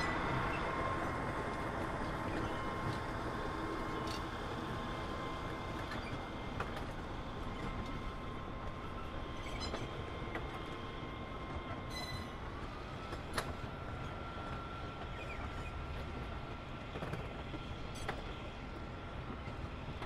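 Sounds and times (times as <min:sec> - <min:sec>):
train rolling past: 0:00.0 - 0:20.0.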